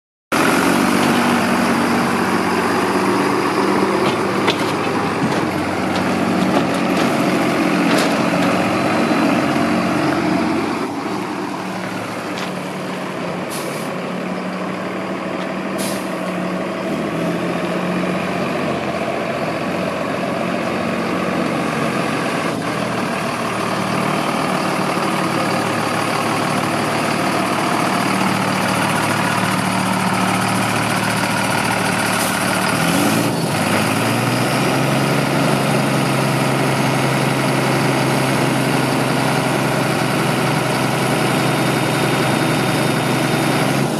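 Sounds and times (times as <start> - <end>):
diesel truck engine running: 0.3 - 43.9.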